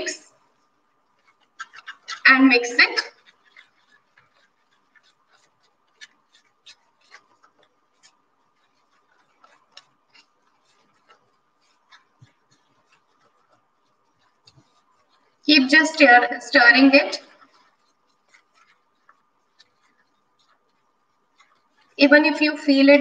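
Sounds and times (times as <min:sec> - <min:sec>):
wooden stick stirring dry mix: 0:00.0 - 0:23.0.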